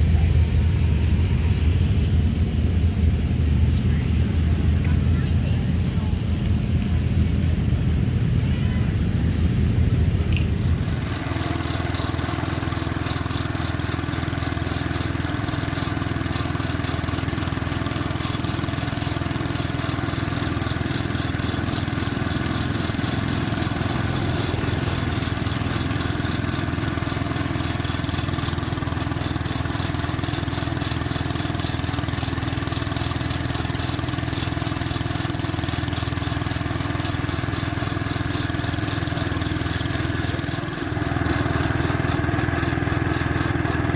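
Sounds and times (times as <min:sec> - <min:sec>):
garden tractor engine running: 0:00.0 - 0:43.9.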